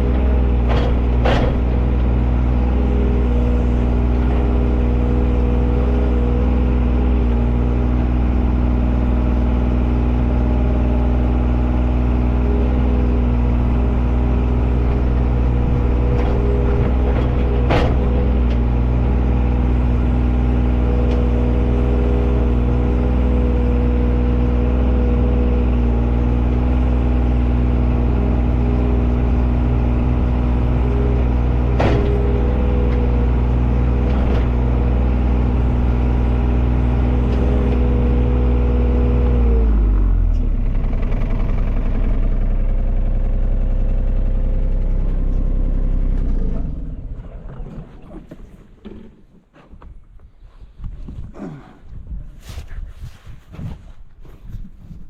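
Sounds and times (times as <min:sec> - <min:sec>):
digging machine engine running: 0:00.0 - 0:49.1.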